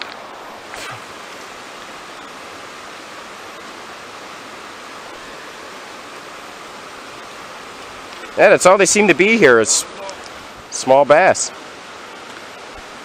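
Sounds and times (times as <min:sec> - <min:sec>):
river flowing over rocks: 0:00.0 - 0:13.0.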